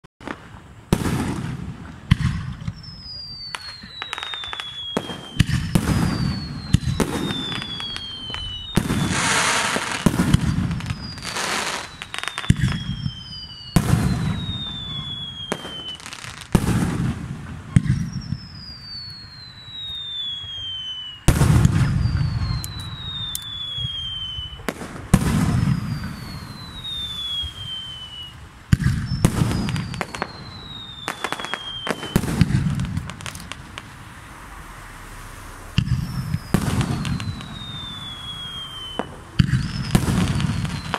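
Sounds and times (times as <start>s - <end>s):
falling firework whistles: 0.2s - 40.9s
fireworks bursting with bangs: 0.2s - 40.9s
fireworks crackling: 0.2s - 40.9s.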